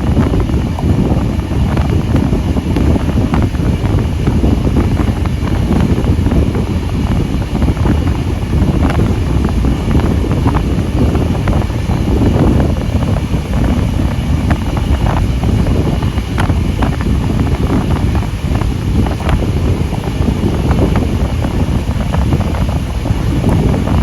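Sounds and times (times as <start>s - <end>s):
train wheels rumbling: 0.0s - 24.0s
wind buffeting microphone: 0.0s - 24.0s.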